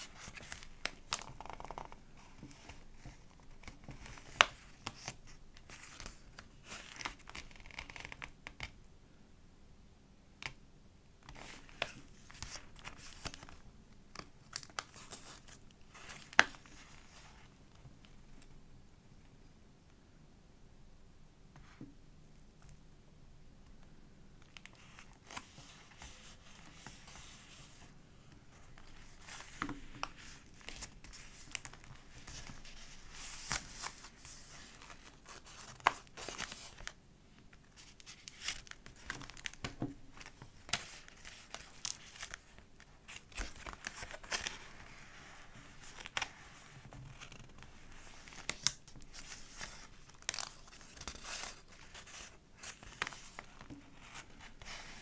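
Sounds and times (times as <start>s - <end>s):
pages turning and rustling: 0.0s - 8.7s, 11.3s - 13.6s, 14.2s - 17.5s, 24.4s - 37.0s, 37.6s - 55.0s.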